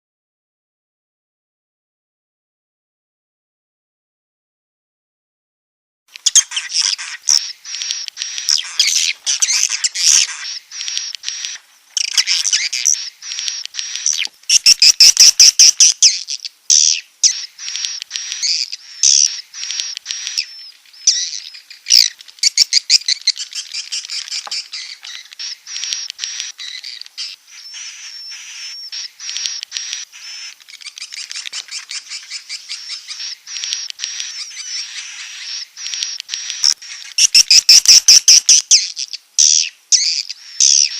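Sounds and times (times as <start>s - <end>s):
bird chirps and twitters: 6.1s - 40.9s.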